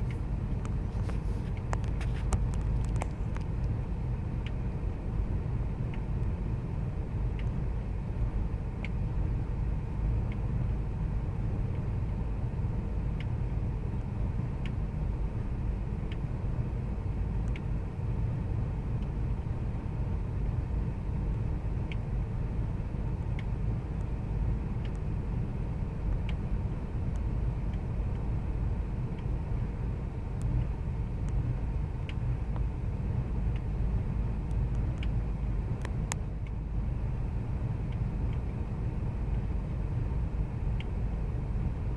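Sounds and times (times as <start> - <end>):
faint irregular engine ticks: 0.0 - 41.9.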